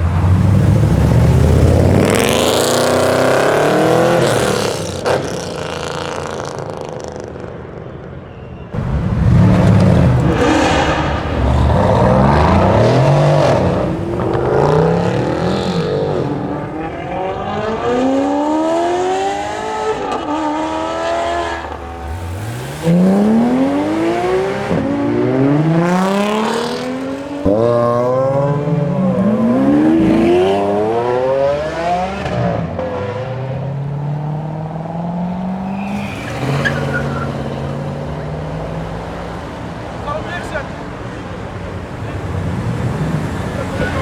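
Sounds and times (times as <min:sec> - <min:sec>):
cars accelerating hard: 0:00.0 - 0:08.1, 0:08.7 - 0:44.0.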